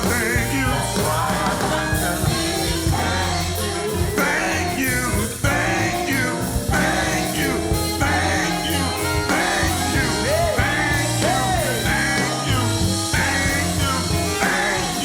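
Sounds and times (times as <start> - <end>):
church band playing: 0.0 - 15.0.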